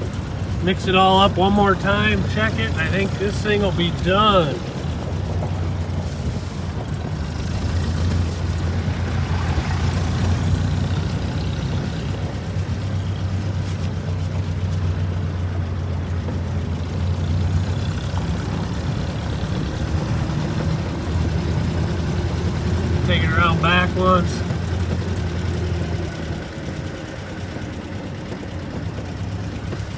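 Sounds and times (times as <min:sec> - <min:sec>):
engine humming steadily: 0:00.0 - 0:29.9.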